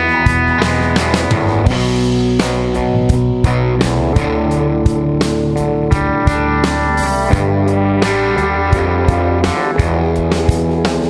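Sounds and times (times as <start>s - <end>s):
guitar music: 0.0s - 11.0s
steady drum beat: 0.0s - 11.0s.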